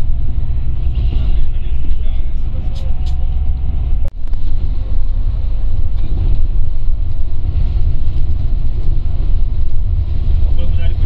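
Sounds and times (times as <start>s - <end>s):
bus engine and tyres rumbling: 0.0s - 11.0s.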